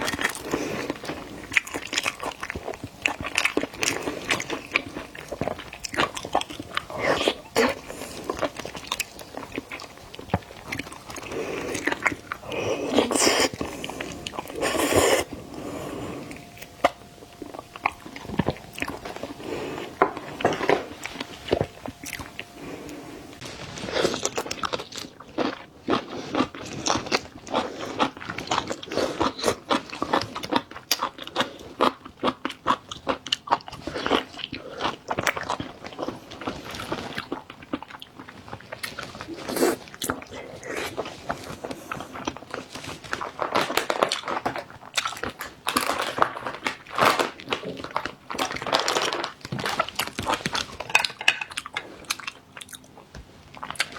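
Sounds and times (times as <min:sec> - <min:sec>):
crunching and chewing: 0:00.0 - 0:53.9.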